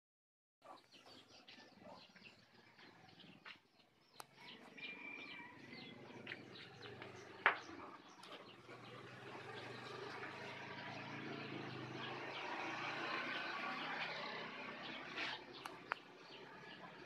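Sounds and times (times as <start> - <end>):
birds chirping: 0.6 - 17.0.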